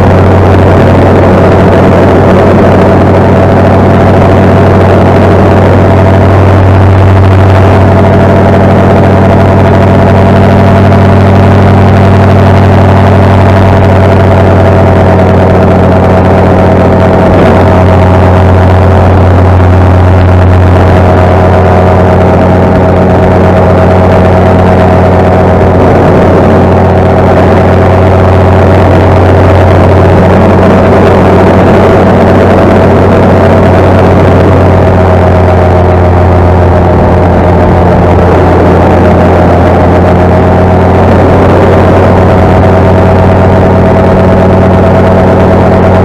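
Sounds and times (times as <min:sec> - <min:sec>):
paramotor engine and propeller: 0:00.0 - 0:46.0.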